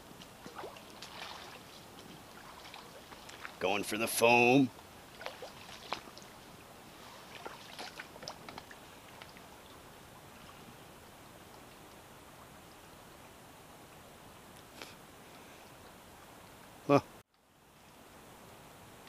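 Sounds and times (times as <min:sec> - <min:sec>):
brook water flowing: 0:00.0 - 0:16.8.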